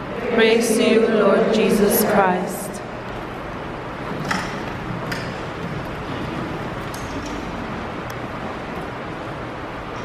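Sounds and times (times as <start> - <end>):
room noise: 0.0 - 10.0.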